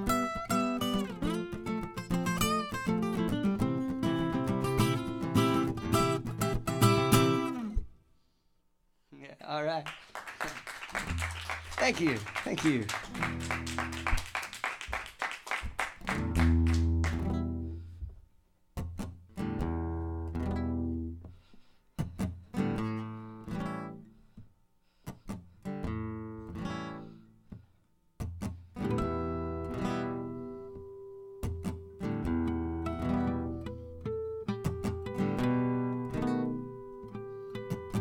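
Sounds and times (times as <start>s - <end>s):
solo acoustic guitar: 0.0s - 8.0s, 13.1s - 14.2s, 15.6s - 38.0s.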